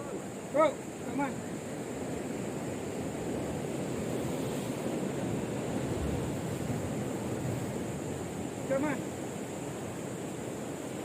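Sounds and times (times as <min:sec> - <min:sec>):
ocean surf washing: 0:00.0 - 0:11.0.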